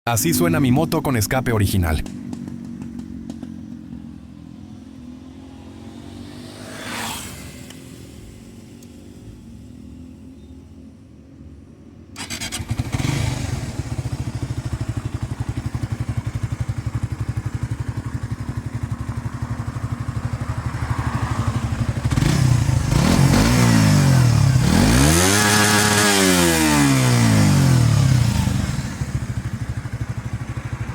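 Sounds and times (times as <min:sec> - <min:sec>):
motorcycle engine idling and revving: 0:00.2 - 0:30.9.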